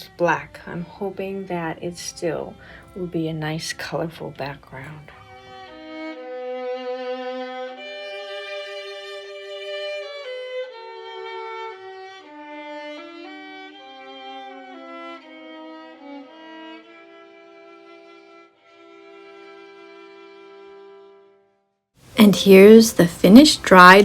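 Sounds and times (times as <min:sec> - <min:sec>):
slow bowed string melody: 0:00.0 - 0:21.6.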